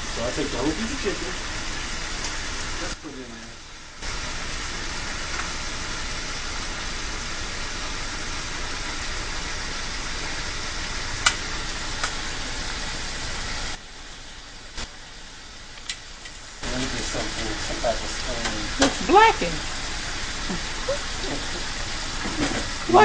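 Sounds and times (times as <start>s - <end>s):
chicken sizzling in sauce: 0.0s - 23.0s.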